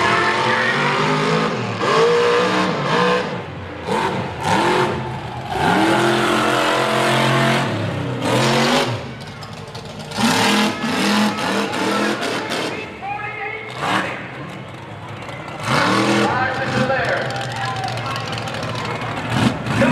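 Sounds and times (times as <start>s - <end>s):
truck engine revving hard: 0.0s - 13.0s, 13.6s - 19.9s.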